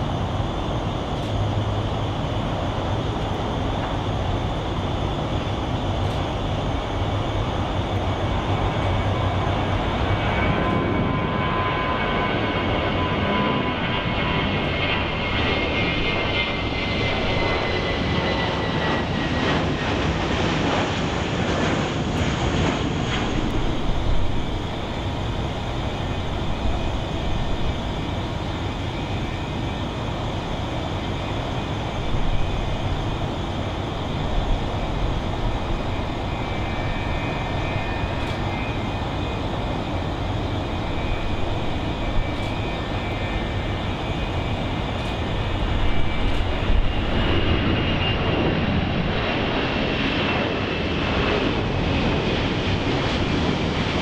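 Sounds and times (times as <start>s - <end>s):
jet engine at takeoff power: 0.0s - 54.0s
jet engines with falling whine: 0.0s - 54.0s.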